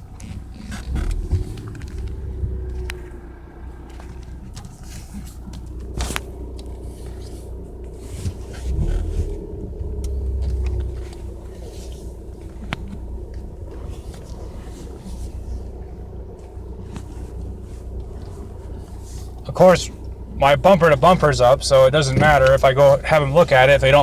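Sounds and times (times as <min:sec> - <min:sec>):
car engine rumble from cabin: 0:00.0 - 0:24.0.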